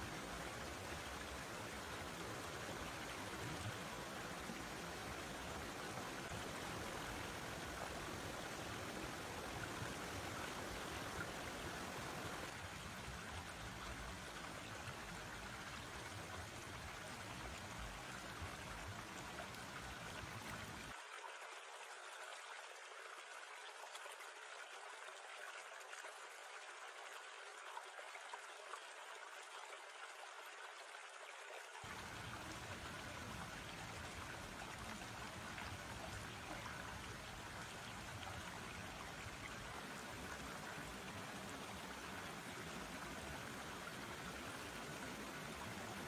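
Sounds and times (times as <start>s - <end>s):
stream water rushing and trickling: 0.0s - 46.0s.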